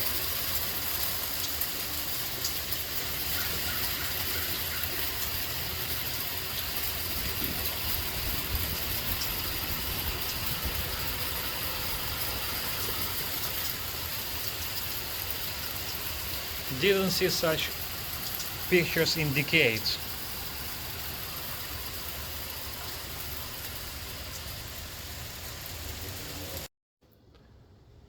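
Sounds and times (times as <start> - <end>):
hail and rain falling: 0.0 - 26.7.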